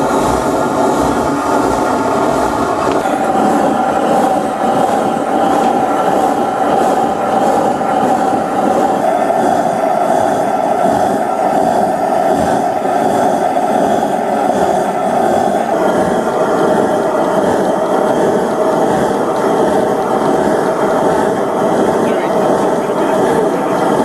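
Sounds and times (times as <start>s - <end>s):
blowlamp burning with rushing noise: 0.0s - 24.0s.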